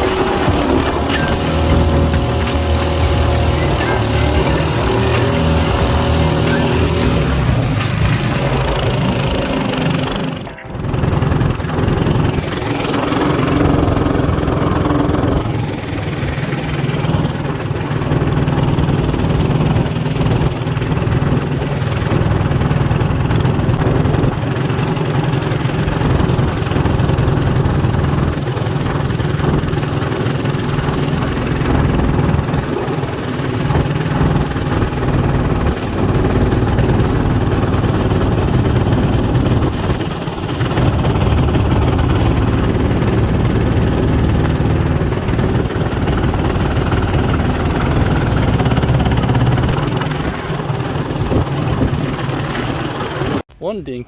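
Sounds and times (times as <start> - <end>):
boat engine running steadily: 0.0 - 53.4.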